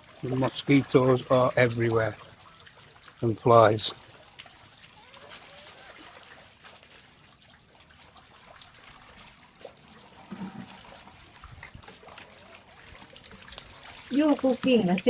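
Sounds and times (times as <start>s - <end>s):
trickle of running water: 0.0s - 15.0s.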